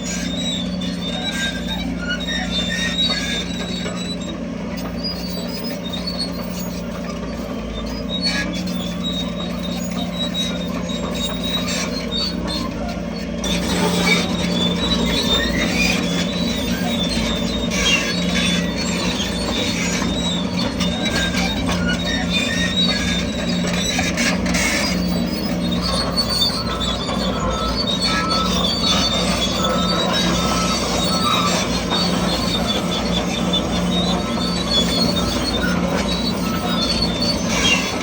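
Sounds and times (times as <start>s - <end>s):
diesel engine humming: 0.0s - 38.0s
steel tracks squealing: 0.0s - 38.0s.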